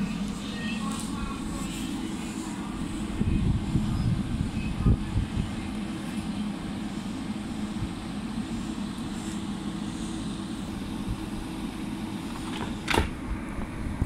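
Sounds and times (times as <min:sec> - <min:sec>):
standing train humming: 0:00.0 - 0:14.0.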